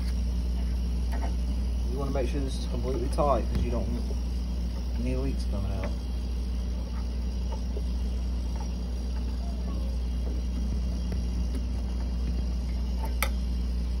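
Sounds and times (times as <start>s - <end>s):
refrigerator compressor humming: 0.0s - 14.0s.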